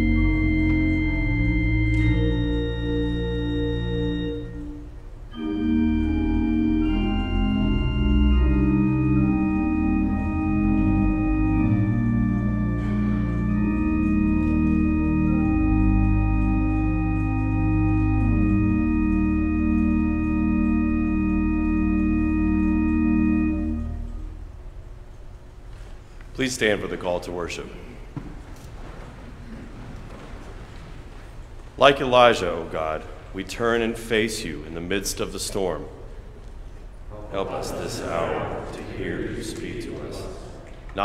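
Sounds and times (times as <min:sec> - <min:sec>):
organ playing sustained chords: 0:00.0 - 0:25.4, 0:31.5 - 0:41.0.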